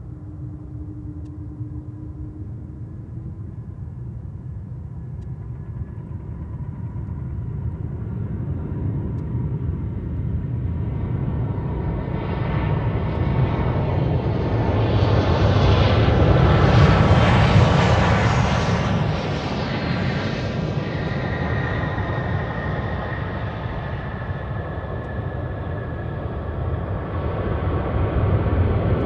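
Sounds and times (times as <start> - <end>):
jet engines rumbling on approach: 0.0 - 29.0.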